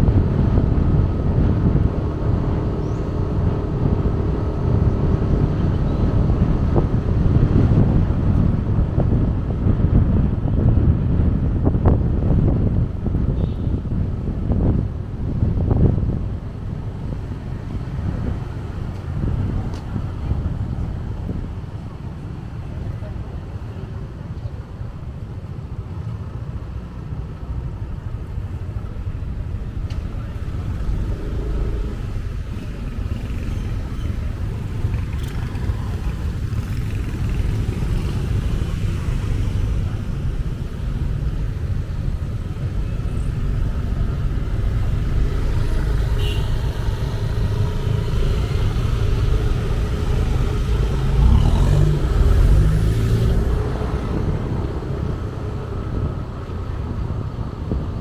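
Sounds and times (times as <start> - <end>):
cars passing: 0.0 - 58.0
motorcycle engine rumble: 0.0 - 58.0.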